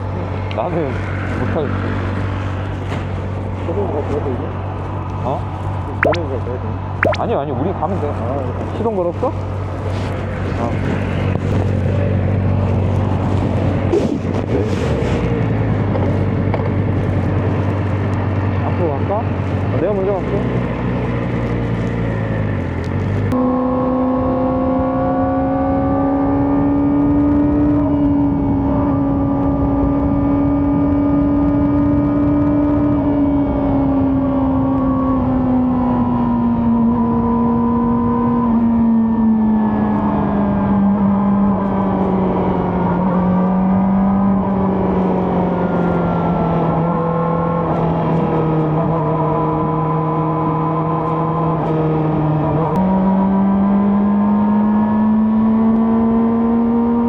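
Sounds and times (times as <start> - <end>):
motorcycle engine at high revs: 10.4 - 57.0.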